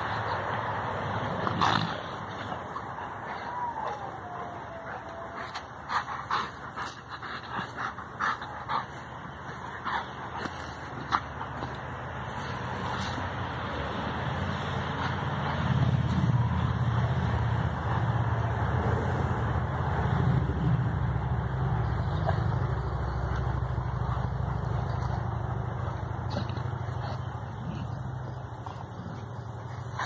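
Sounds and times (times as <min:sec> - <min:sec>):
low engine rumble: 0:00.0 - 0:30.0.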